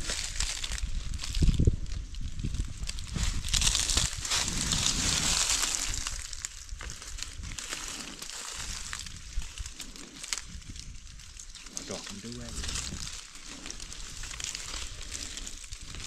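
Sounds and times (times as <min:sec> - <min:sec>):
hands rustling leafy branches: 0:00.0 - 0:16.0.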